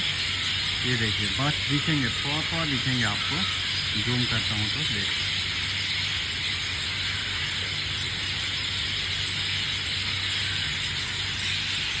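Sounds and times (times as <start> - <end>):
birds chattering: 0.0 - 12.0.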